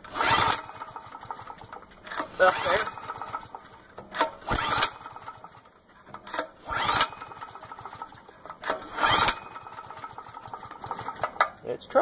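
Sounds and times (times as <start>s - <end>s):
recoil starter pull whirring: 0.0s - 11.6s.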